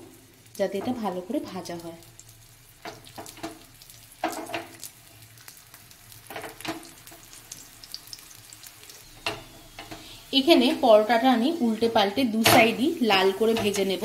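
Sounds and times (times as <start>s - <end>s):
oil sizzling and spitting: 0.0s - 14.0s.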